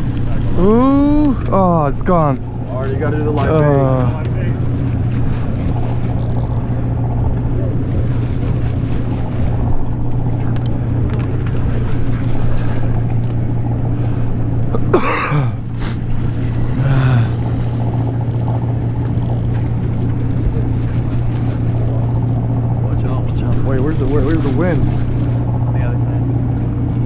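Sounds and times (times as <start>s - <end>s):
boat engine drone: 0.0s - 27.0s
water noise: 0.0s - 27.0s
wind: 0.0s - 27.0s.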